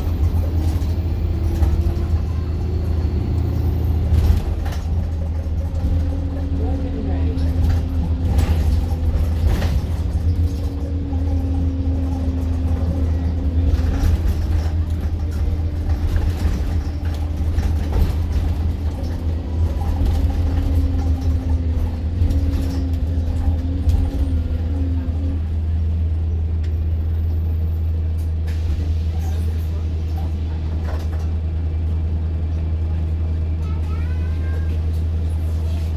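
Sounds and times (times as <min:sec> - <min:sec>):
light cabin rattles: 0:00.0 - 0:26.8, 0:28.0 - 0:35.9
bus engine and road rumble: 0:00.0 - 0:35.9.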